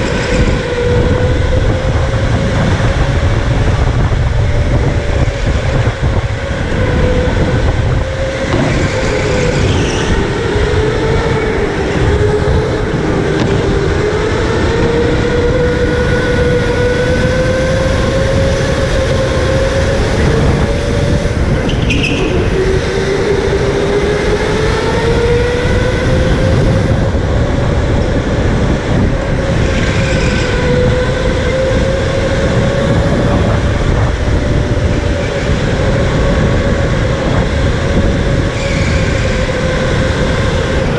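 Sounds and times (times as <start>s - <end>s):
steady low rumble: 0.0s - 38.6s
electric go-kart motor whining: 0.0s - 40.9s.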